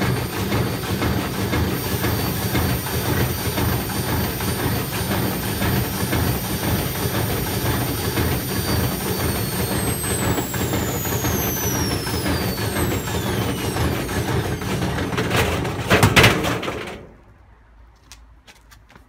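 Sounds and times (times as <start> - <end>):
high motor whine: 0.0 - 17.0
dryer drum rumble and rattle: 0.0 - 17.2.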